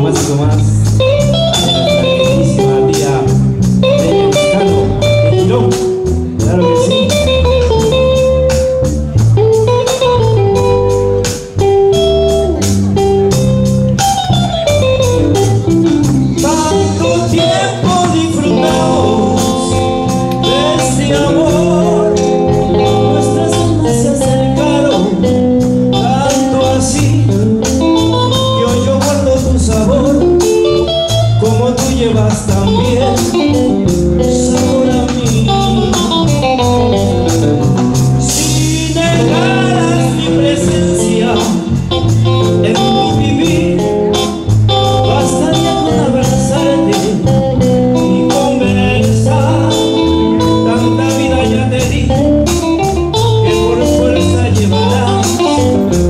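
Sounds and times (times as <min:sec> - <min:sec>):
man singing: 0:00.0 - 0:08.5, 0:15.3 - 0:37.5, 0:38.2 - 0:56.0
bass guitar: 0:00.0 - 0:56.0
electric guitar: 0:00.0 - 0:56.0
steady drum beat: 0:00.0 - 0:56.0.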